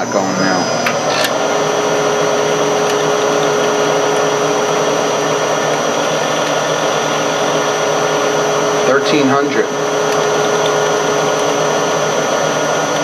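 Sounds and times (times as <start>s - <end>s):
high-pitched motor whine: 0.0s - 13.0s
lathe spindle whirring: 0.0s - 13.0s.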